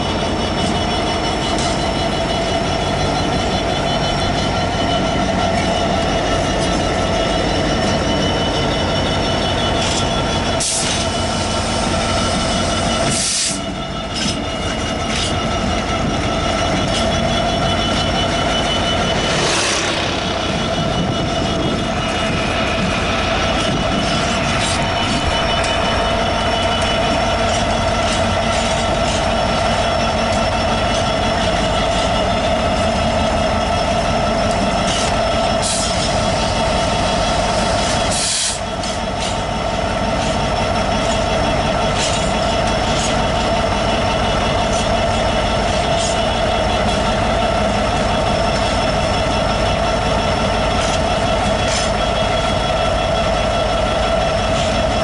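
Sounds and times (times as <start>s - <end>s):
diesel locomotive engine running: 0.0s - 55.0s
train wheels on rails: 0.0s - 55.0s.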